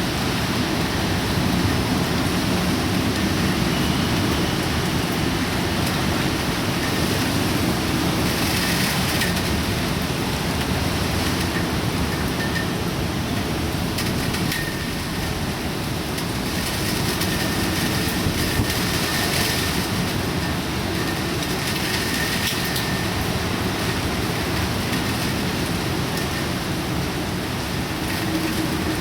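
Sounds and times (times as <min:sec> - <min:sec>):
heavy rain and wind: 0:00.0 - 0:29.0.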